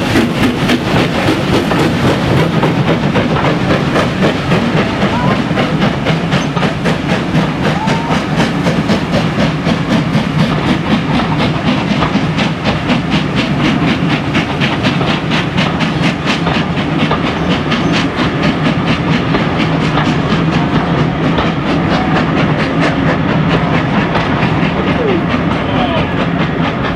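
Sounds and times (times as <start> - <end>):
steam locomotive beats: 0.0 - 26.9
train clattering on rails: 0.0 - 26.9.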